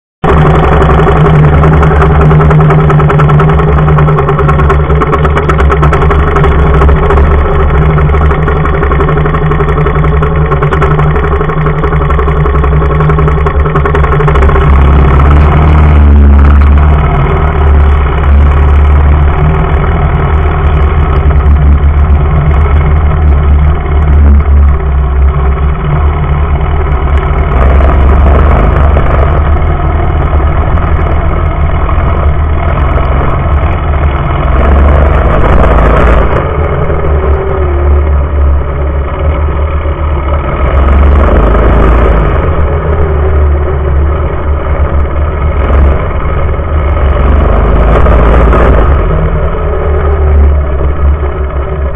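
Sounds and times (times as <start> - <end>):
small engine revving loudly: 0.2 - 51.9.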